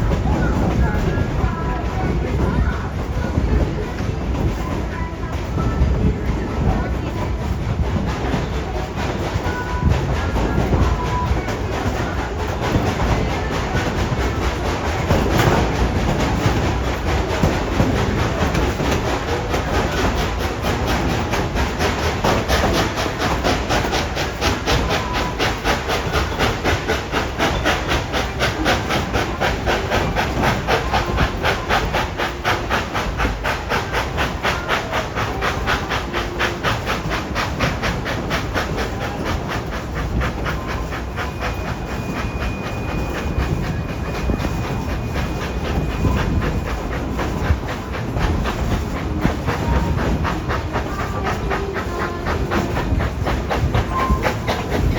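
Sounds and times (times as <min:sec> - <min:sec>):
steam locomotive chugging: 0:00.0 - 0:54.9
train cars rolling on rails: 0:00.0 - 0:54.9
hiss of steam: 0:08.4 - 0:54.9.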